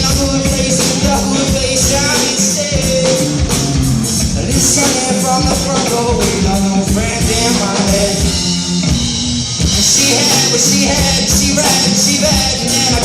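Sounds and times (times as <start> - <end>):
person singing: 0.0 - 8.6, 9.6 - 13.0
drums keeping a steady beat: 0.0 - 13.0
guitar: 0.0 - 13.0.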